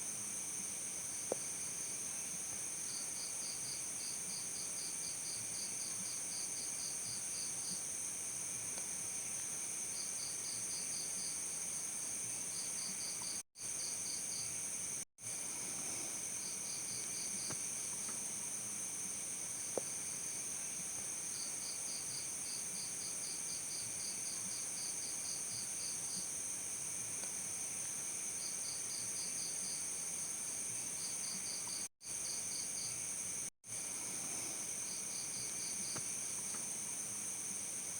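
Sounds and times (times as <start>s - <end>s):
crickets chirping: 0.1s - 8.1s, 9.1s - 37.9s.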